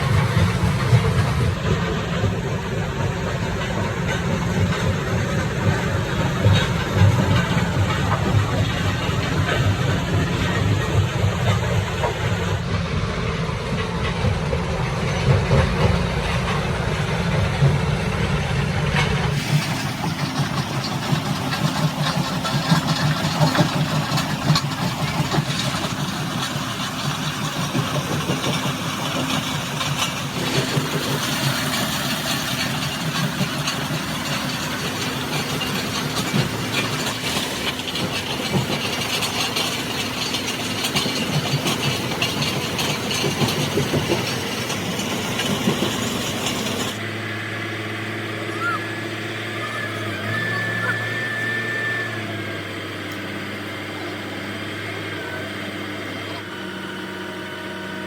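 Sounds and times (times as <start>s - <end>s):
running machinery: 0.0s - 58.0s.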